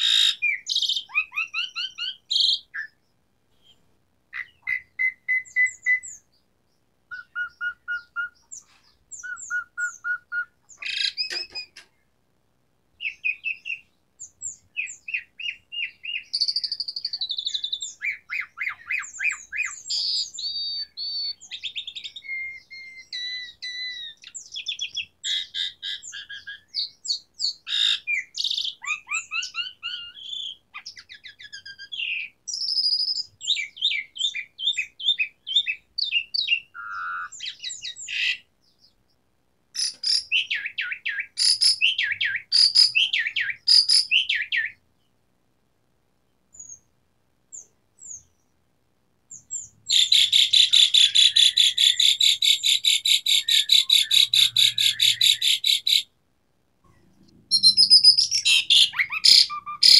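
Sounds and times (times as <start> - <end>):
starling singing: 0.0 - 3.0, 3.6 - 6.4, 7.1 - 11.9, 13.0 - 38.5, 39.8 - 44.8, 49.3 - 56.1, 57.3 - 59.9.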